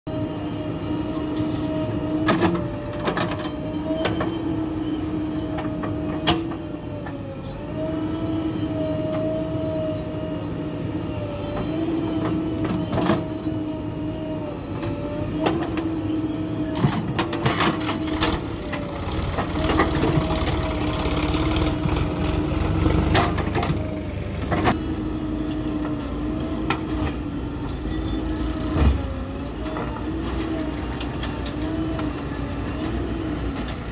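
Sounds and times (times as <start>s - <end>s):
diesel engines running: 0.1s - 33.9s.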